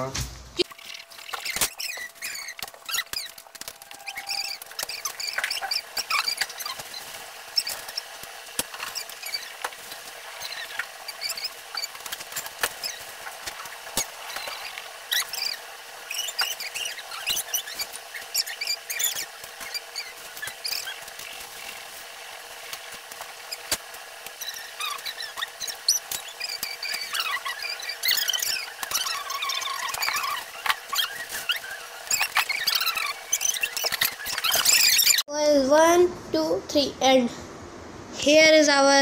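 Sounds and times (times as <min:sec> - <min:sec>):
short high squeaks: 0:00.6 - 0:22.0, 0:22.6 - 0:35.2.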